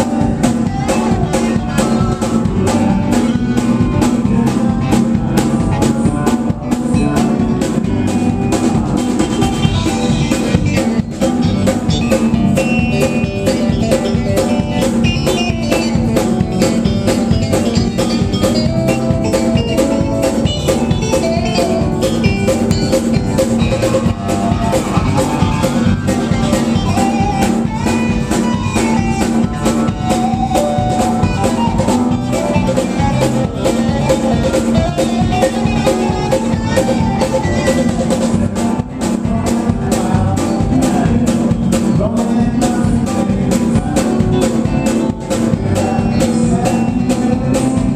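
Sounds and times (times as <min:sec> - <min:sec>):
drum kit fast beat: 0:00.0 - 0:47.9
live band playing: 0:00.0 - 0:47.9.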